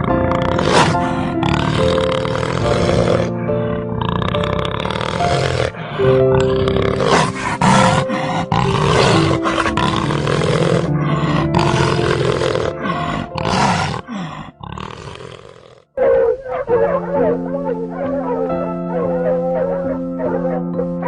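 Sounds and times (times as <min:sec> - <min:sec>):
animal giving rough calls: 0:00.0 - 0:17.3
background music: 0:00.0 - 0:21.0.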